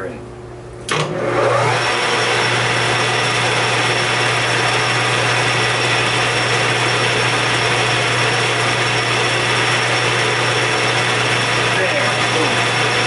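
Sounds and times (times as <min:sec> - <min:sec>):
metal lathe motor hum: 0:00.9 - 0:13.0.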